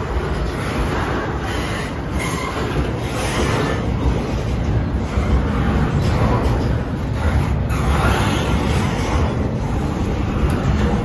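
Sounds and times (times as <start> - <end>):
freight train rolling past: 0.0 - 11.0
steel wheels on rails: 0.0 - 11.0.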